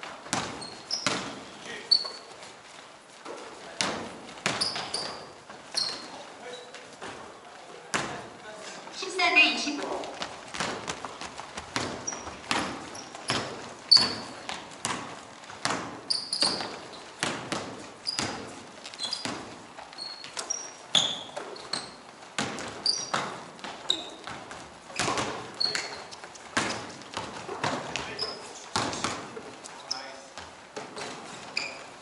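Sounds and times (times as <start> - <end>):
basketballs bouncing on court: 0.0 - 6.2, 6.9 - 8.4, 9.3 - 32.0
sneaker squeaks: 0.0 - 8.4, 9.0 - 32.0.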